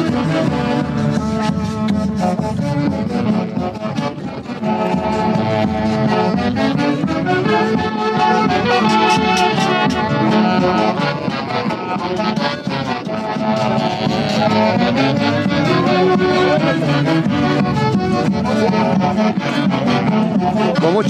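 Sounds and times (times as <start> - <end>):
festival orchestra playing folk music: 0.0 - 21.0
saxophones: 0.0 - 21.0
steady beat: 0.0 - 21.0.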